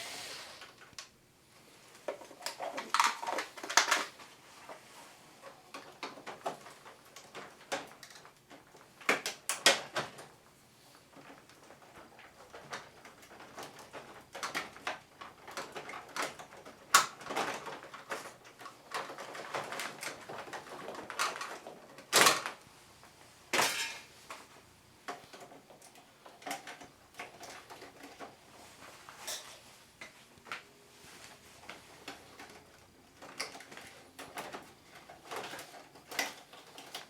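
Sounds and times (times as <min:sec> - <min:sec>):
plastic parts clicking and scraping: 0:01.8 - 0:37.0.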